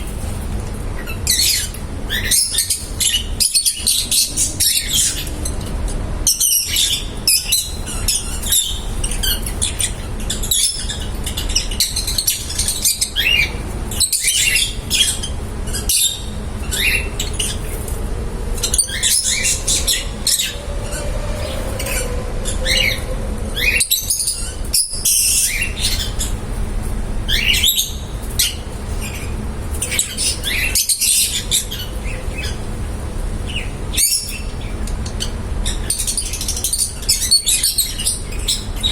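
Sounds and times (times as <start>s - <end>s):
love birds chirping and squawking: 0.0s - 38.9s
steady low hum: 0.0s - 38.9s.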